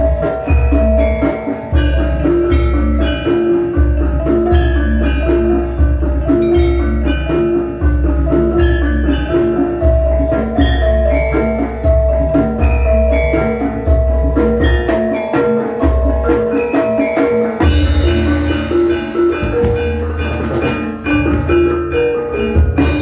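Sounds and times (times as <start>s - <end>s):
gamelan ensemble playing: 0.0s - 23.0s.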